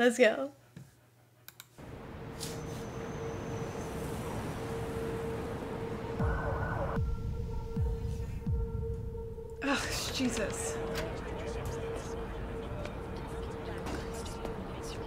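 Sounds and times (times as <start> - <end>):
ambient drone with held tones: 1.8 - 15.0.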